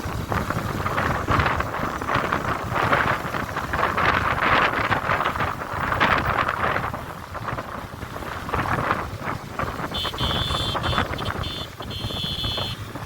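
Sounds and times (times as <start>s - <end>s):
moving vehicle running: 0.0s - 13.0s
wind buffeting microphone: 0.0s - 13.0s.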